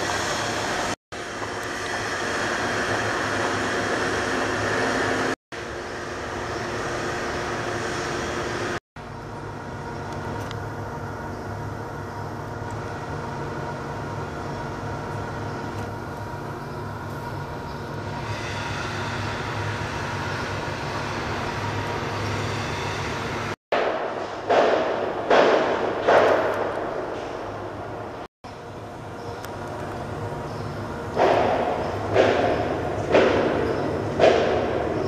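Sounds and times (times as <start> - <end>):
machinery drone with steady tones: 0.0 - 35.0.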